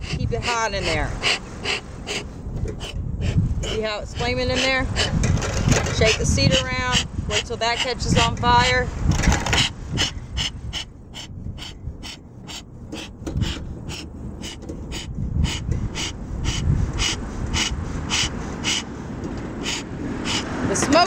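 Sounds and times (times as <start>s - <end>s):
bellows puffing air: 0.0s - 21.0s.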